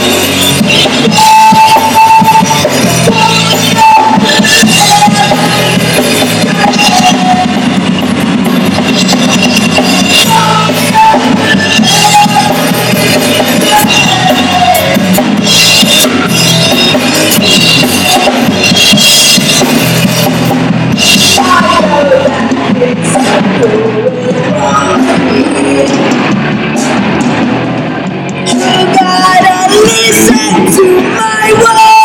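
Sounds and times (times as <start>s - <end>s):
drum kit beat: 0.0s - 32.0s
electric guitar: 0.0s - 32.0s.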